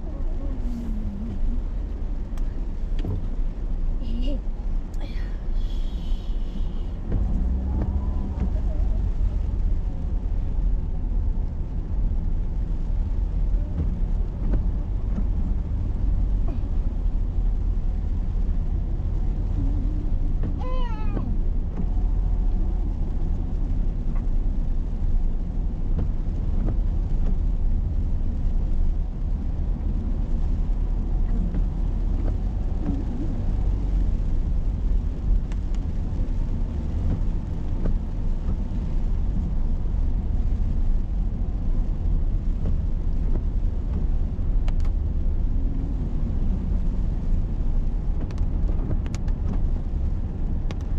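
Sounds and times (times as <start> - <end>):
car driving heard from cabin: 0.0 - 50.9.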